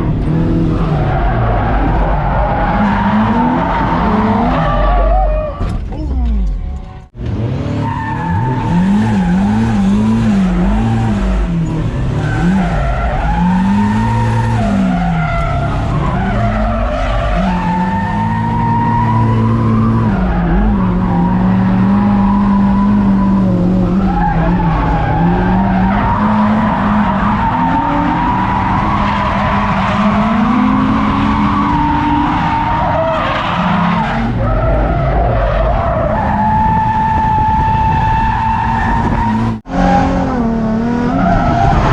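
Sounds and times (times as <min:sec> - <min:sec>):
car engine revving: 0:06.2 - 0:41.9.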